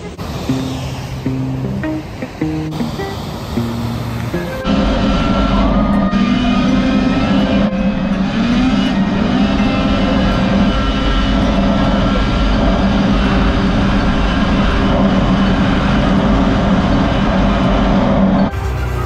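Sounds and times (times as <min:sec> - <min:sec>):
rushing noise: 0:00.0 - 0:19.0
snowmobile engine cruising: 0:00.0 - 0:19.0.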